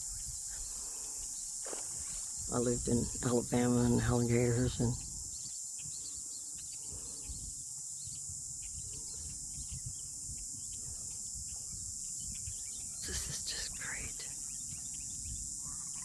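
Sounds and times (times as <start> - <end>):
insect chorus buzzing: 0.0 - 16.0.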